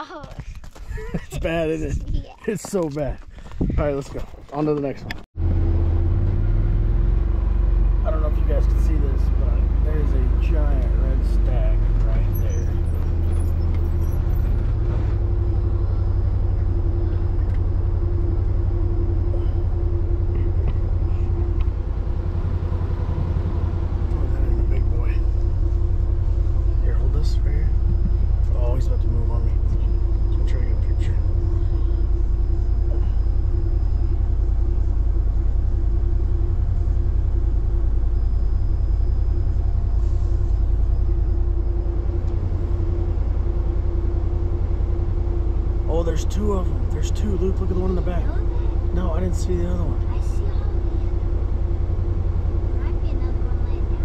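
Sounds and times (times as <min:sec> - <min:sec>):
constant hum: 0:00.0 - 0:54.0
vehicle engine rumbling: 0:00.0 - 0:54.0.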